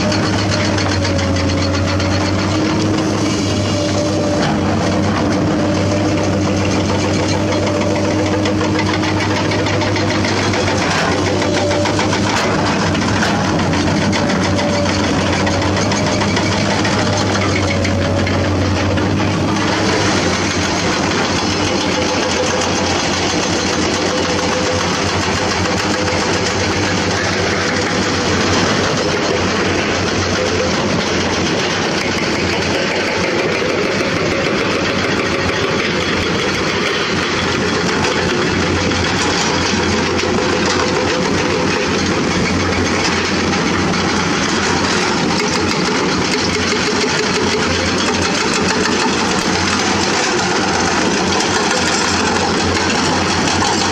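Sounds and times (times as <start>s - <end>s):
excavator diesel engines: 0.0s - 53.9s.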